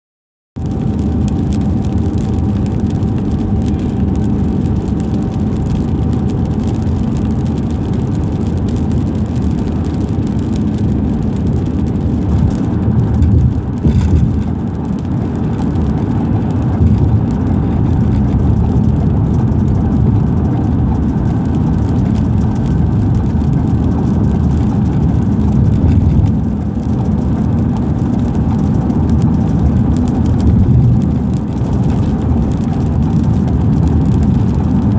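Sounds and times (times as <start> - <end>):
rain: 0.6 - 34.9
road and engine noise: 0.6 - 34.9.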